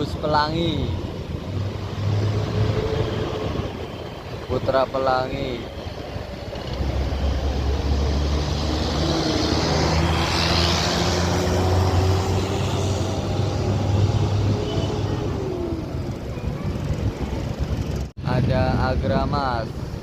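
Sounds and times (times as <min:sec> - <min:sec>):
bus engine drone: 0:00.0 - 0:18.2.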